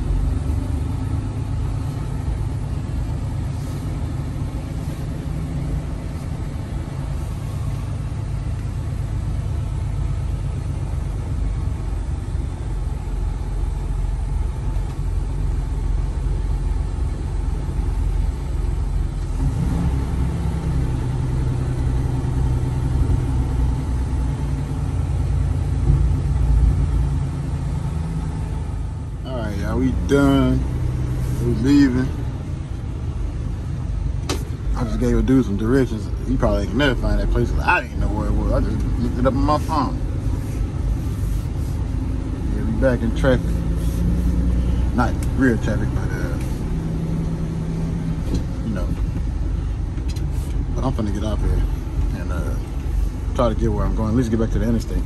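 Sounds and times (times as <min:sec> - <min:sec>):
diesel truck engine humming: 0:00.0 - 0:55.0.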